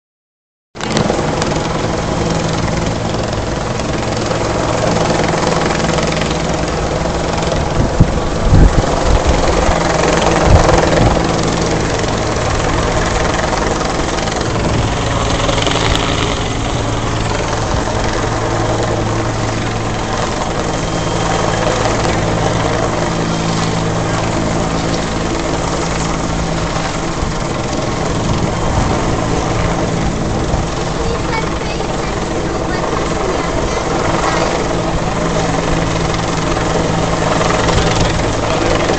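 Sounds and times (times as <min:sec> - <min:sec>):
helicopter engine and rotor droning: 0:00.8 - 0:38.9.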